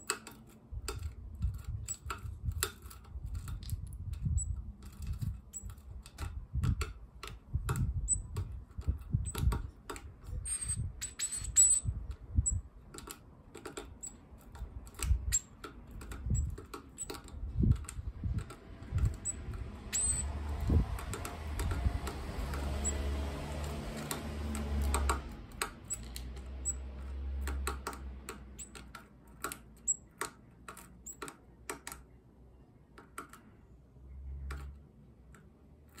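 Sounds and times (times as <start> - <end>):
bird pecking seeds on tray: 0.0 - 32.2.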